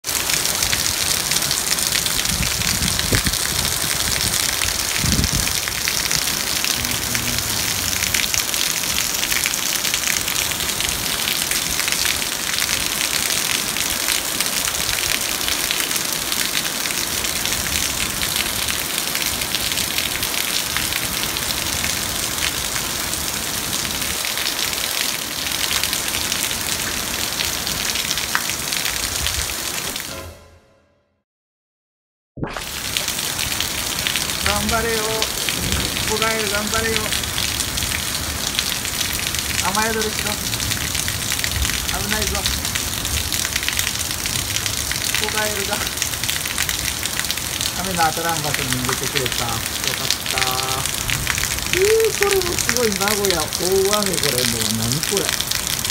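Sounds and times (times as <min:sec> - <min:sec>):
heavy rain splashing: 0:00.0 - 0:30.1, 0:32.5 - 0:55.9.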